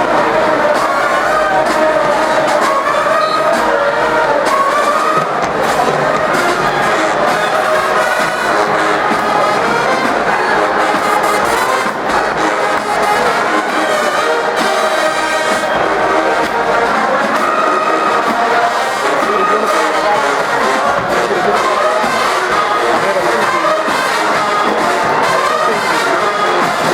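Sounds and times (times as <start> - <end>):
marching band brass playing: 0.0 - 26.9.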